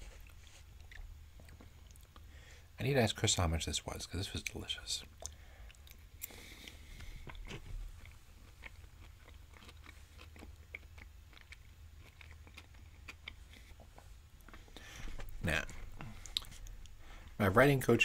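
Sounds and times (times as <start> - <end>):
man chewing food: 0.0 - 2.6, 4.4 - 17.4.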